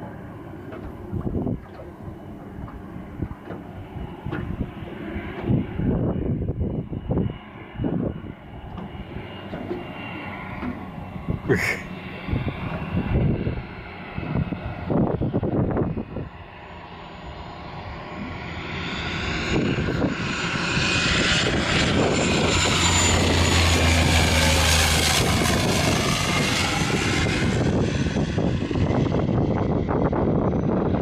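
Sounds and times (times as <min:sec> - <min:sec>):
wind buffeting microphone: 0:00.0 - 0:09.8, 0:10.6 - 0:16.6, 0:18.3 - 0:31.0
plane engine and propeller: 0:00.0 - 0:31.0.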